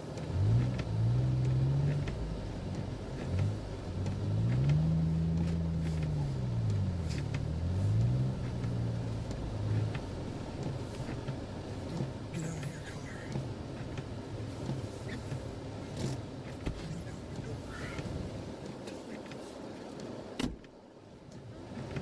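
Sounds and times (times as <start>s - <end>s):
car engine revving: 0.0s - 18.5s.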